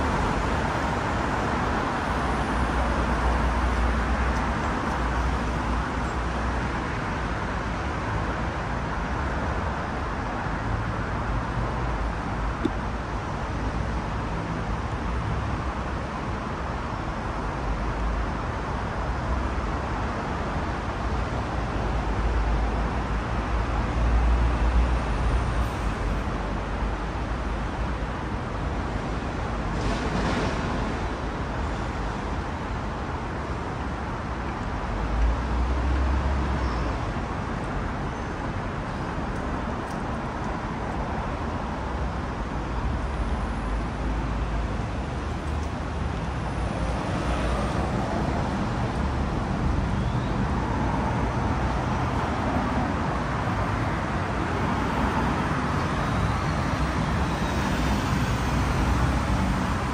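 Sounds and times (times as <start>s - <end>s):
traffic hum: 0.0s - 59.9s.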